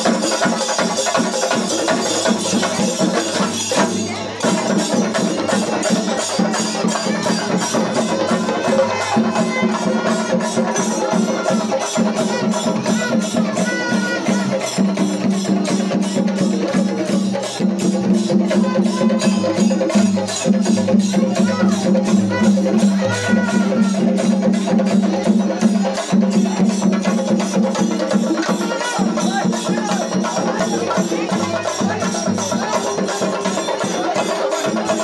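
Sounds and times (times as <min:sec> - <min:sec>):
barrel drums beating: 0:00.0 - 0:35.0.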